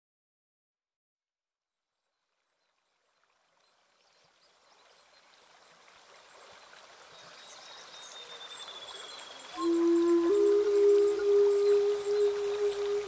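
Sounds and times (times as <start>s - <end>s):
running water: 2.3s - 13.0s.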